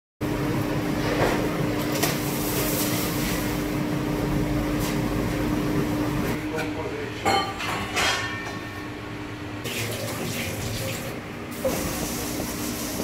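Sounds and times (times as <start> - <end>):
kitchen machinery humming: 0.2 - 13.0.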